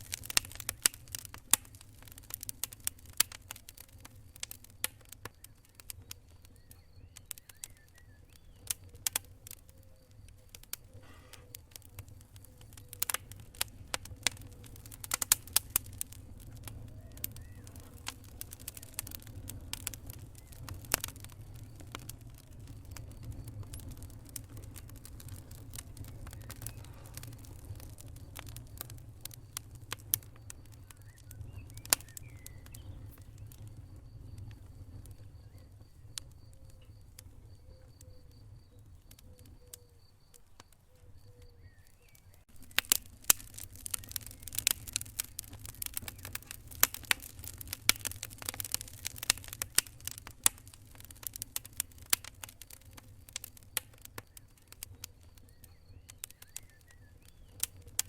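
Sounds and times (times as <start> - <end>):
low steady fire rumble: 0.0 - 58.0
wood fire crackling: 0.0 - 58.0.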